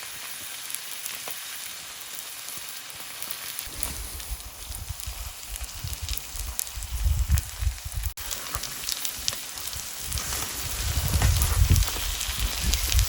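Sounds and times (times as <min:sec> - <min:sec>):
steak sizzling: 0:00.0 - 0:13.0
wood fire crackling: 0:00.0 - 0:13.0.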